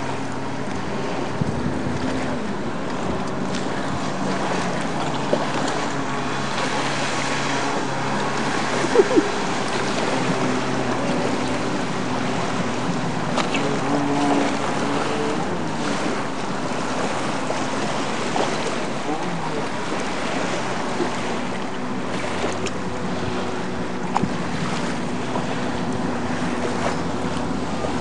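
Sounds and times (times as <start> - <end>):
jet ski engine running: 0.0 - 28.0
wind on microphone: 0.0 - 28.0.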